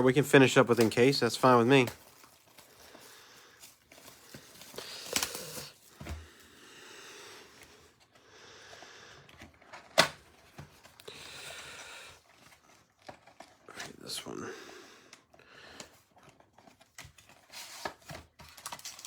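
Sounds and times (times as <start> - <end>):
packaging rustling: 0.2 - 6.6, 9.2 - 14.4, 15.1 - 19.0.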